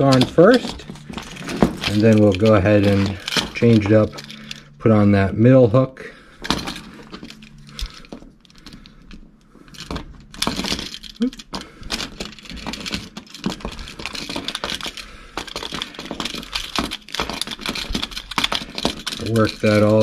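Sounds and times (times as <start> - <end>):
small metallic clicks and jingles: 0.0 - 4.8, 6.4 - 20.0.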